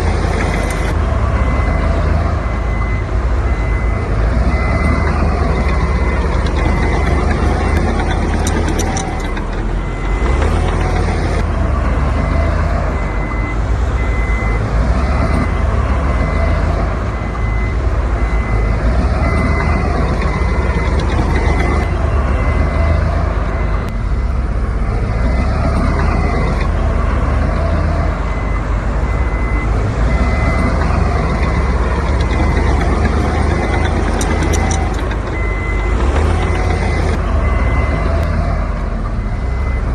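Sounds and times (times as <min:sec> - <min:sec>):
heavy diesel machinery running: 0:00.0 - 0:39.9
reversing alarm beeping: 0:00.0 - 0:39.9.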